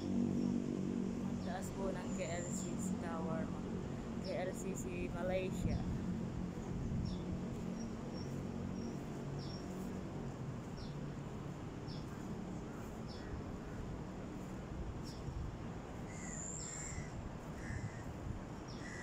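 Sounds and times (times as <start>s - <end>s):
low outdoor hum: 0.0s - 19.0s.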